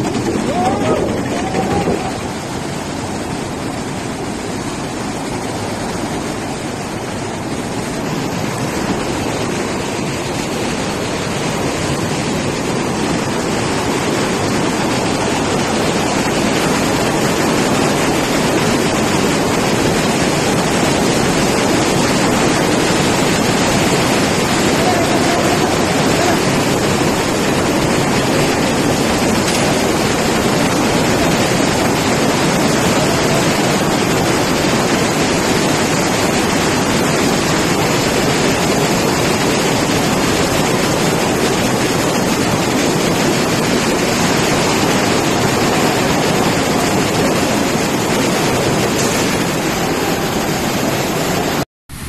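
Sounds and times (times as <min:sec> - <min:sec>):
floodwater rushing: 0:00.0 - 0:52.0.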